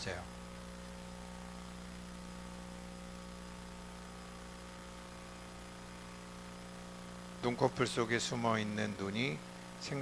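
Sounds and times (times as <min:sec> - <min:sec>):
electrical mains hum: 0:00.0 - 0:10.0
faint hiss: 0:00.0 - 0:10.0.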